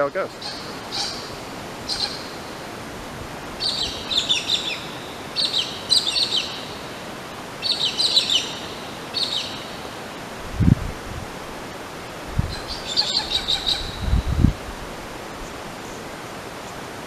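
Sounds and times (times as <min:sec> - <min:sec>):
wild birds chirping: 0:00.0 - 0:17.0.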